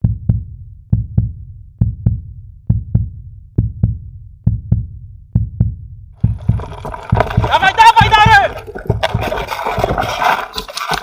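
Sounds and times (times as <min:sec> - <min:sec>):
heartbeat thumps: 0:00.0 - 0:11.0.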